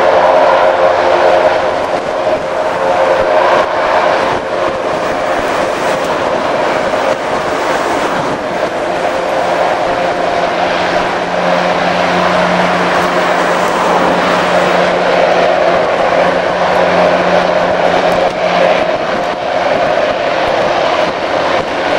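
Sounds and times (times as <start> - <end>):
aircraft engines whining: 0.0 - 21.9.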